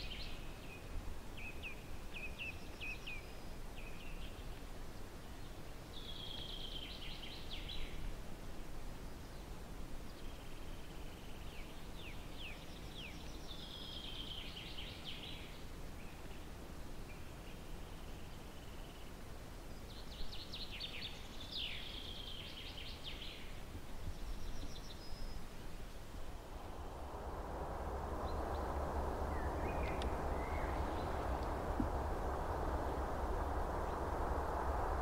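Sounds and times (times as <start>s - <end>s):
songbirds singing: 0.0s - 8.1s, 9.0s - 27.3s, 28.0s - 35.0s
steady low background noise: 0.0s - 35.0s.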